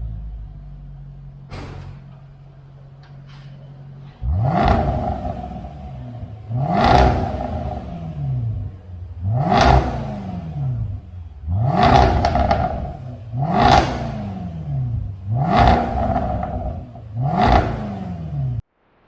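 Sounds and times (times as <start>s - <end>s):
car engine idling and revving: 0.0s - 18.7s.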